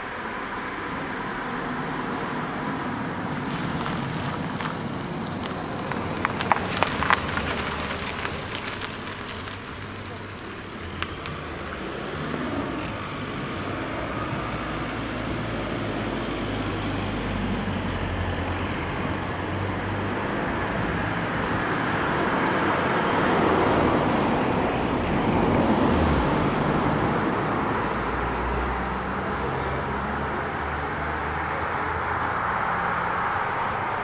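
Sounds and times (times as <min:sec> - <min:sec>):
car engine idling: 0:00.0 - 0:34.0
traffic rumble: 0:00.0 - 0:34.0.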